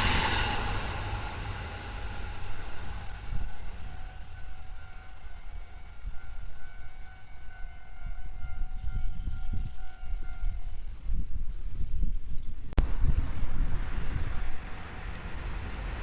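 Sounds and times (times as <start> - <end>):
passing train: 0.0 - 12.0, 12.8 - 16.0
wind rumble on microphone: 0.0 - 16.0.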